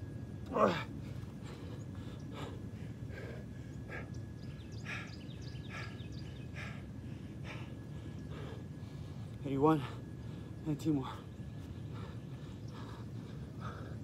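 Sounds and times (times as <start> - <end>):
man breathing hard: 0.5 - 14.0.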